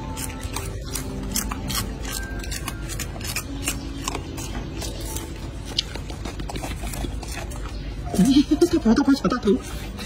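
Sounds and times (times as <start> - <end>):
monkeys crunching celery: 0.0 - 10.0.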